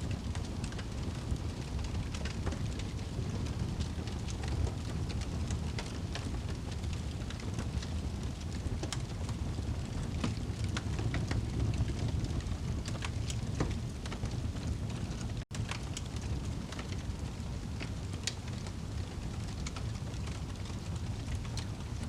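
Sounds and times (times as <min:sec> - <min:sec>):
burning wood crackling: 0:00.0 - 0:22.0
fireplace flames rushing: 0:00.0 - 0:22.0.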